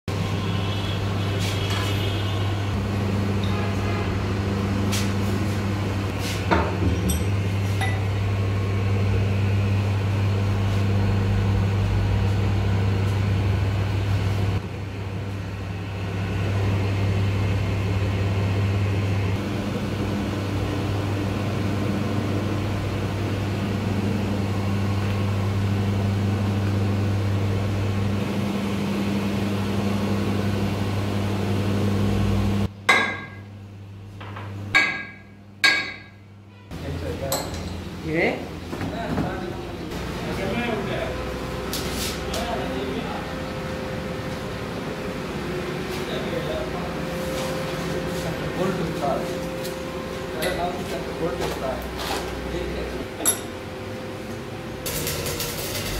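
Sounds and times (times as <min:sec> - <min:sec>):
low electric machinery hum: 0:00.1 - 0:55.9.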